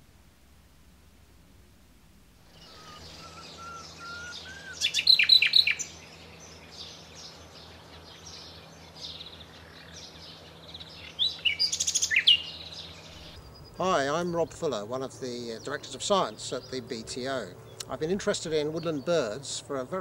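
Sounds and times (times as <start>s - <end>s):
nightingale singing: 2.4s - 19.7s.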